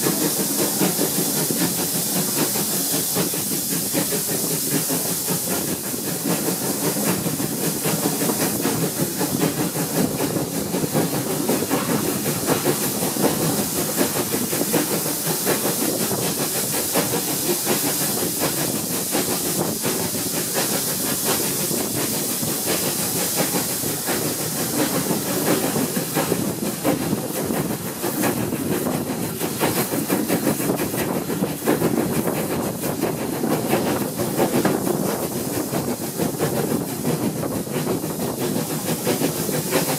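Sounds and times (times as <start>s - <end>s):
steam hissing: 0.0s - 39.9s
train rumbling and rattling: 0.0s - 39.9s.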